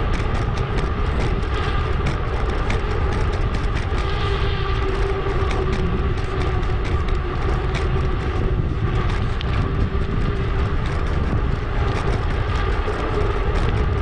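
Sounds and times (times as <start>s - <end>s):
bike tyre and road noise: 0.0s - 14.0s
small rattles: 0.0s - 14.0s
wind buffeting microphone: 0.0s - 14.0s.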